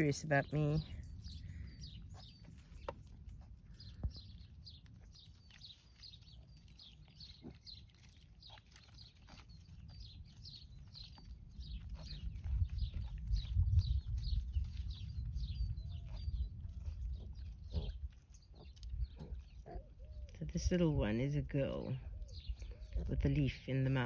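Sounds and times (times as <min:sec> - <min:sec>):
bird chirping: 0:00.0 - 0:24.0
piglets snuffling in dry earth: 0:00.0 - 0:24.0.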